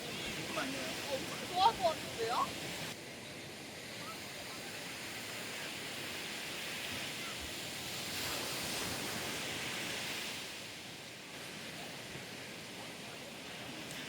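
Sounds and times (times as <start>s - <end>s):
ocean surf breaking on beach: 0.0s - 14.0s.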